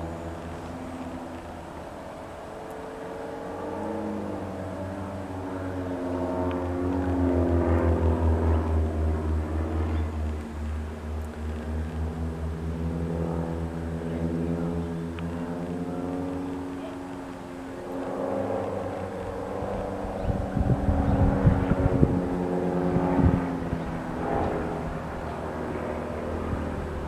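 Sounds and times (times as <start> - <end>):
propeller planes droning overhead: 0.0 - 27.0.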